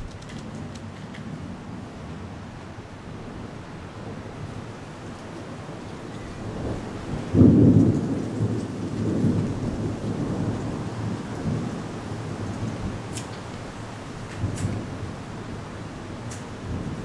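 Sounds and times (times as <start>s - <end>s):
thunder clap and rumble: 0.0s - 2.5s, 5.3s - 17.0s
storm wind and rain hiss: 0.0s - 17.0s.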